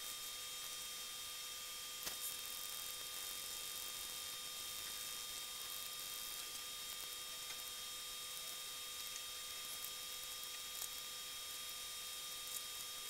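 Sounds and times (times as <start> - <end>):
electrical hiss: 0.0 - 13.0.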